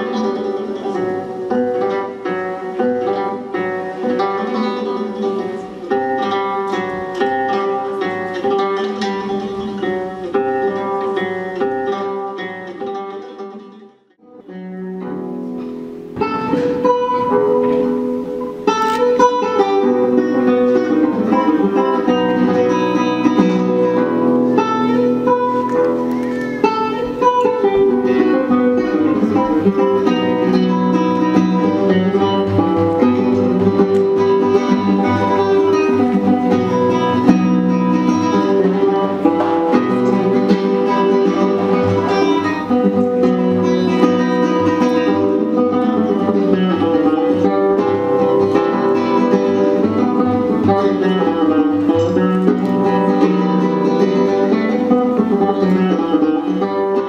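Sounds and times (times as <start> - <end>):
classical guitar playing: 0.0 - 57.0.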